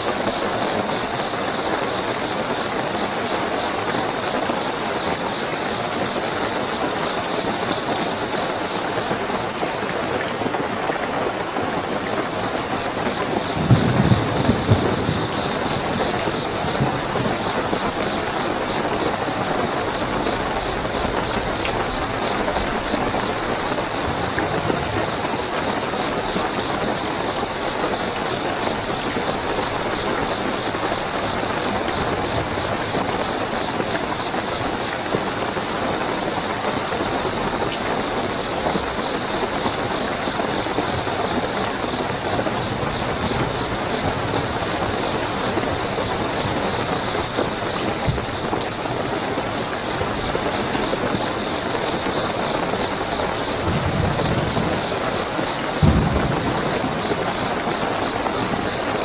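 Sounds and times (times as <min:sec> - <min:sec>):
crickets trilling: 0:00.0 - 0:59.0
heavy rainfall: 0:00.0 - 0:59.0.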